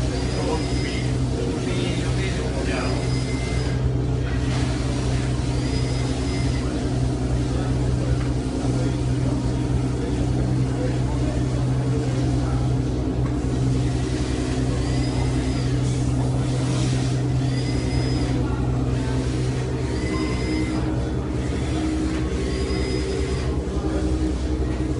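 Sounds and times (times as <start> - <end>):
people talking: 0.0 - 24.9.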